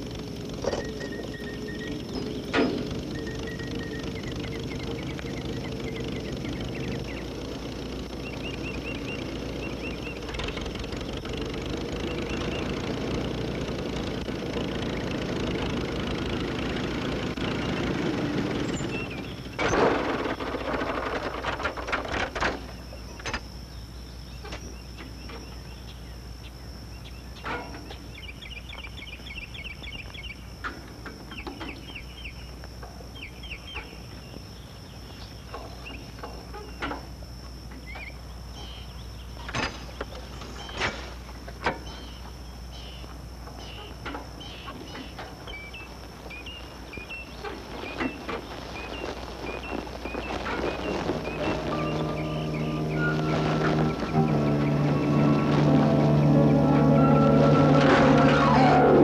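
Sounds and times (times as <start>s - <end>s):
birds chirping: 0.0s - 59.0s
steady high whine: 0.0s - 59.0s
tractor engine running: 0.0s - 59.0s.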